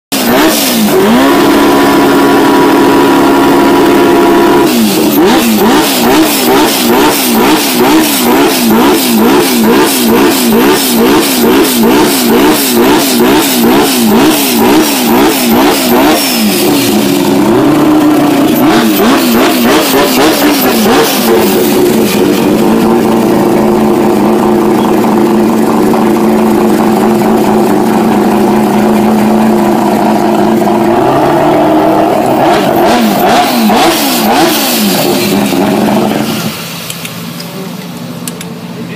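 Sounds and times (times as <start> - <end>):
rotary engine revving: 0.1 - 38.4.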